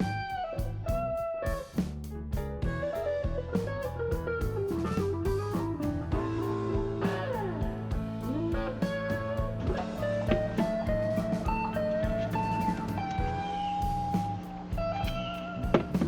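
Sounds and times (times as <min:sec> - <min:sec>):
blues music: 0:00.0 - 0:16.0
electric guitar bending notes: 0:02.6 - 0:16.0.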